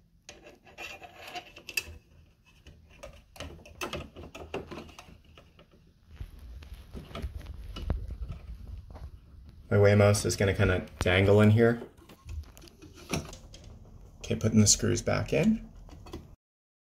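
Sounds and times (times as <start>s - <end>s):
fingers clicking and rustling wires: 0.2s - 9.7s, 10.6s - 16.4s.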